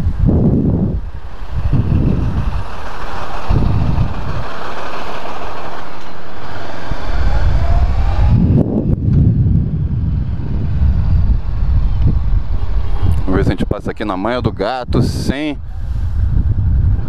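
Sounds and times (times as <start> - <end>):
motorcycle engine rumble: 0.0 - 17.0
wind noise on microphone: 0.0 - 17.0.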